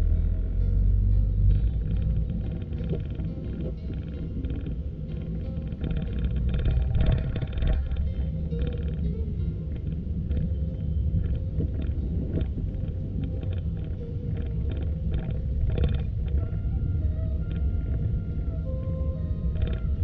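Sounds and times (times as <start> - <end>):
faint level tones: 0.0 - 20.0
street traffic rumble: 0.0 - 20.0.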